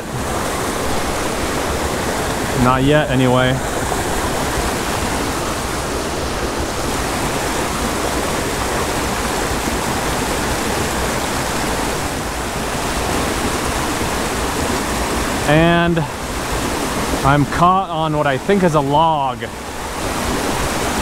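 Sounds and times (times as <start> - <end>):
creek rushing over cascade: 0.0 - 21.0.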